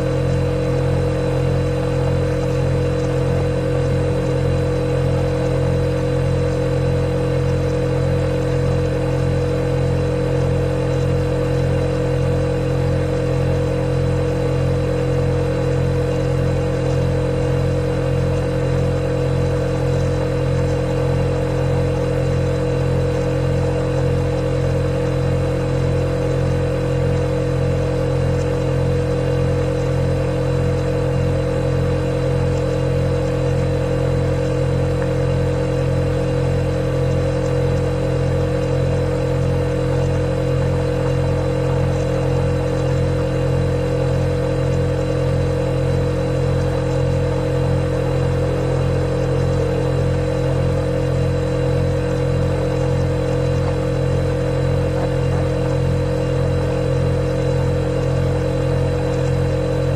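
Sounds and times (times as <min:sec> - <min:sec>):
refrigerator humming: 0:00.0 - 0:59.9.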